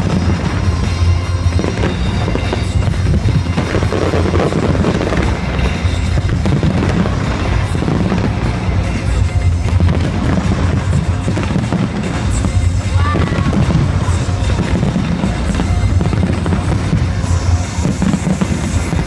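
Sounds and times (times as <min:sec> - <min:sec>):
fireworks bursting and crackling: 0:00.0 - 0:19.0
loud music: 0:00.0 - 0:19.0.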